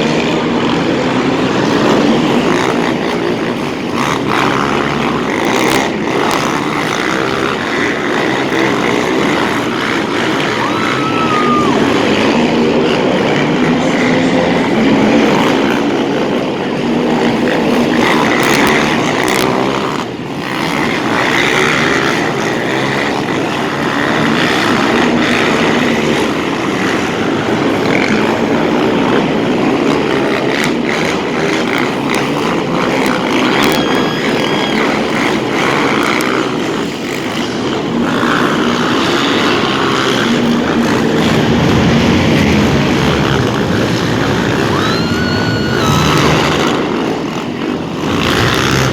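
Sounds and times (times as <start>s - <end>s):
quad bike engines racing: 0.0s - 48.9s.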